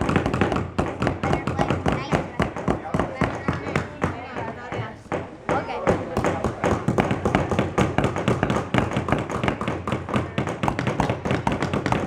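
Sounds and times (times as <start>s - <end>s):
hammers tapping on wood: 0.0s - 12.0s.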